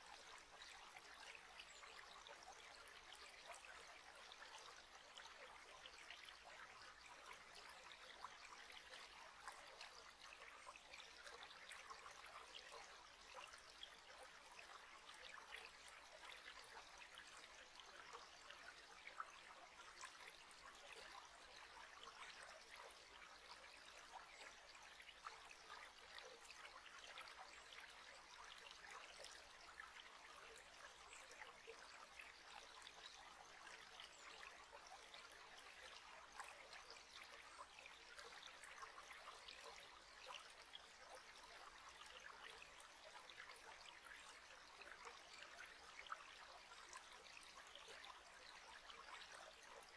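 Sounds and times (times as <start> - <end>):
trickle of running water: 0.0 - 49.9.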